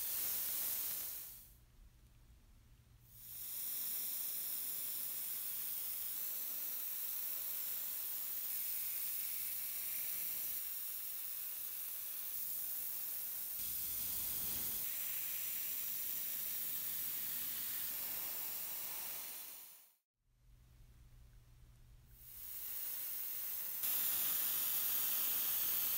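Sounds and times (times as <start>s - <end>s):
airbrush hissing: 0.0s - 1.6s, 3.1s - 20.0s, 22.2s - 25.9s.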